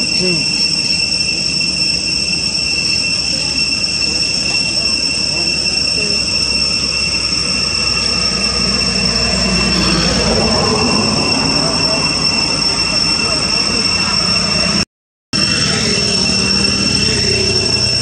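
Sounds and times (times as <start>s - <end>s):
insects droning: 0.0s - 14.8s, 15.4s - 18.0s.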